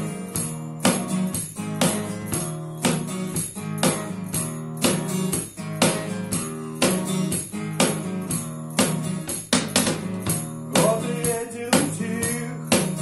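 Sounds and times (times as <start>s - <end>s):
acoustic guitar strumming: 0.0s - 13.0s
cajon percussion: 0.0s - 13.0s.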